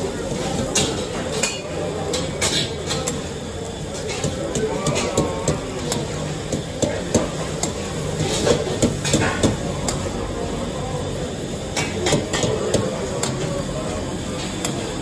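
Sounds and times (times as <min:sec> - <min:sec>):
food sizzling: 0:00.0 - 0:15.0
gas burner noise: 0:00.0 - 0:15.0.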